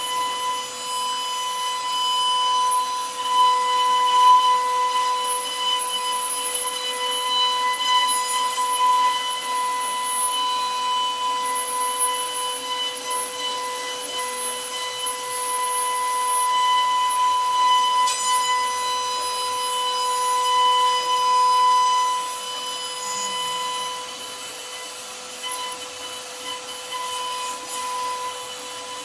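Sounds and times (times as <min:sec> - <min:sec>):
bit cutting wood: 0:00.0 - 0:29.0
router spindle whine: 0:00.0 - 0:29.0.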